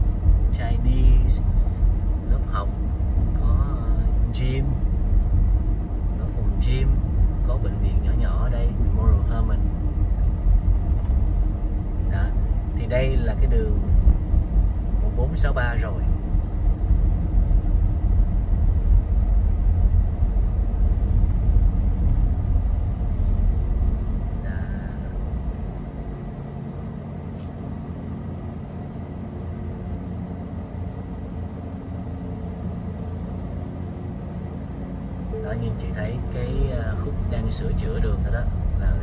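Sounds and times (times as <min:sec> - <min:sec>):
car engine idle hum: 0:00.0 - 0:39.0
car road and engine rumble: 0:00.0 - 0:39.0.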